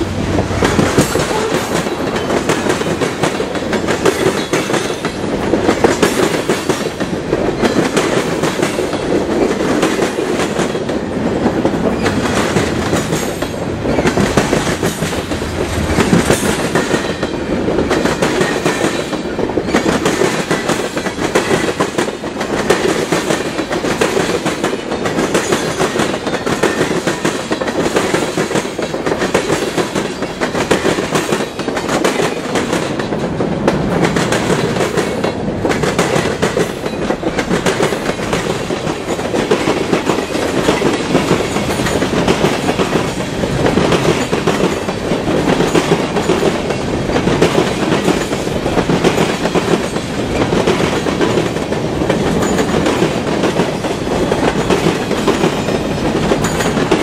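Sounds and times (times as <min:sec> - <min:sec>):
railroad cars rumbling past: 0:00.0 - 0:57.0
wheels clacking over rail joints: 0:00.0 - 0:57.0.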